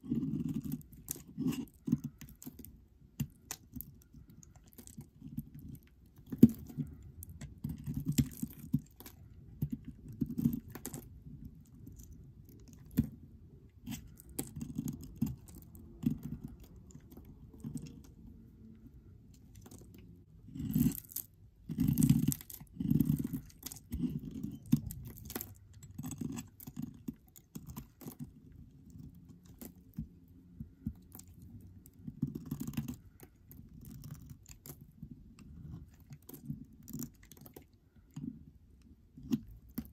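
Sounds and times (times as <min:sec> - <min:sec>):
knife blade shaving soap: 0:00.0 - 0:39.9.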